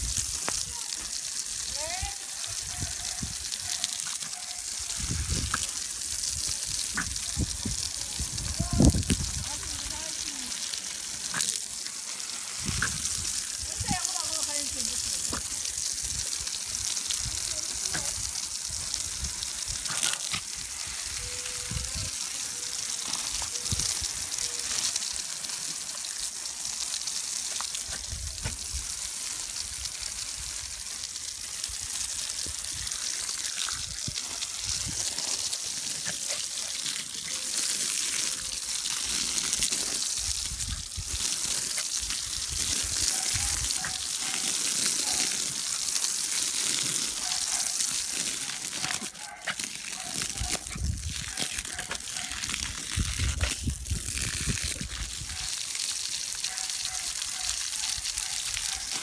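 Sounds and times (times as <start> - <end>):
hose spraying water on grass: 0.0 - 59.0.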